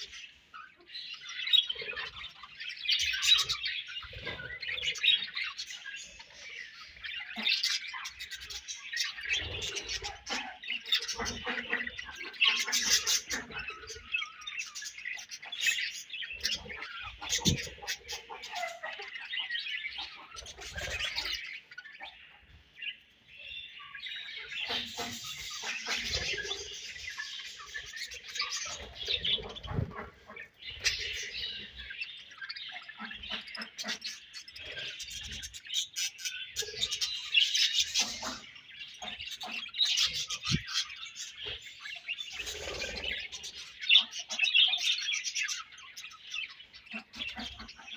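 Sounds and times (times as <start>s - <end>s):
budgerigars chirping: 0.0s - 47.9s.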